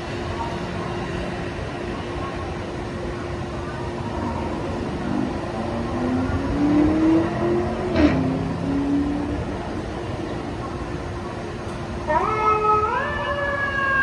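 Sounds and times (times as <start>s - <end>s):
highway traffic hum: 0.0s - 14.0s.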